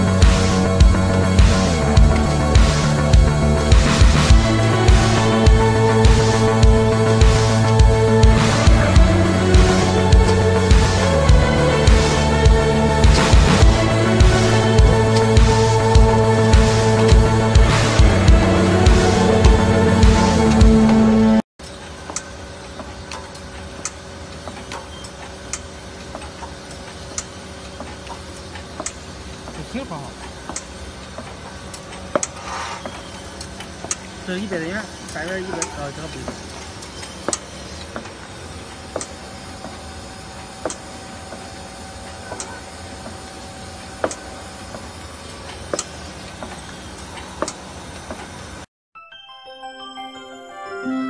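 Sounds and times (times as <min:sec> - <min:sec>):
machine humming: 0:00.0 - 0:48.7.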